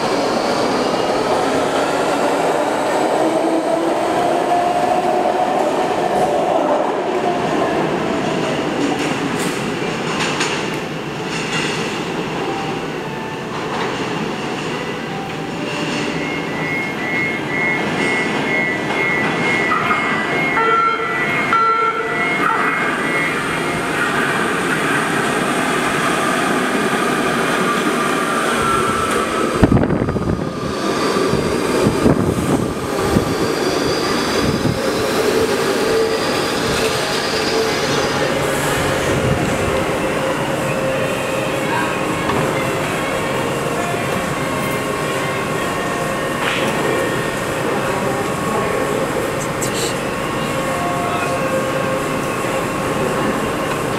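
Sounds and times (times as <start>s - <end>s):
train wheels rumbling on rail: 0.0s - 12.5s, 13.4s - 53.9s.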